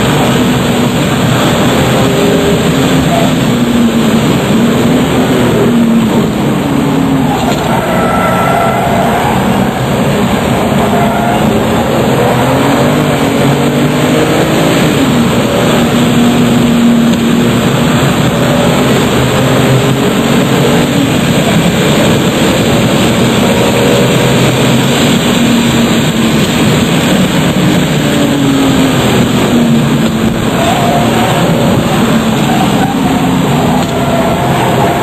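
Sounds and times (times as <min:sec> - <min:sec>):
car engine accelerating: 0:00.0 - 0:35.0
wind and tyre noise: 0:00.0 - 0:35.0.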